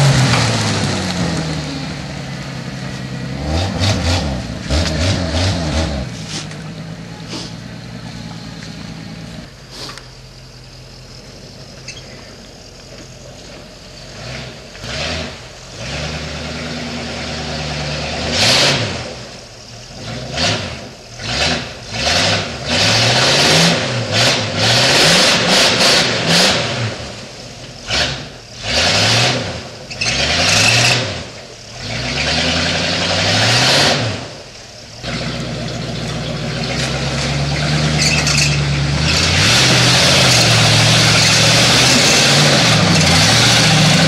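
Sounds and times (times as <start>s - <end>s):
pickup truck engine revving: 0.0s - 11.5s, 13.2s - 44.0s.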